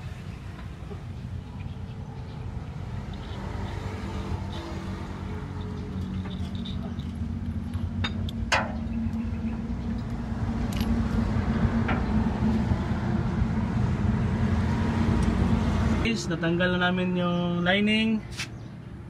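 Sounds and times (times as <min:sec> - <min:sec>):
engine droning: 0:00.0 - 0:18.2.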